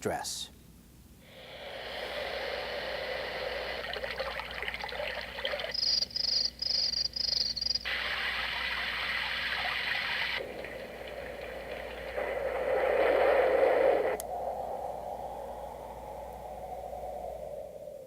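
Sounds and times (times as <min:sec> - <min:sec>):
steady watery hiss: 0:01.2 - 0:18.0.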